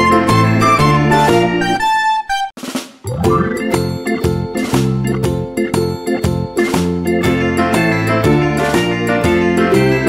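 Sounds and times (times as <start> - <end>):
bright instrumental tune: 0.0 - 8.1.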